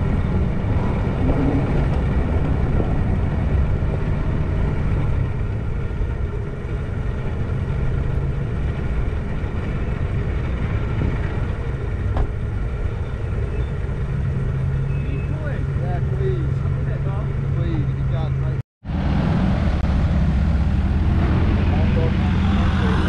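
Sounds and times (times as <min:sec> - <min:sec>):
low engine drone: 0:00.0 - 0:23.0
road noise: 0:00.0 - 0:23.0.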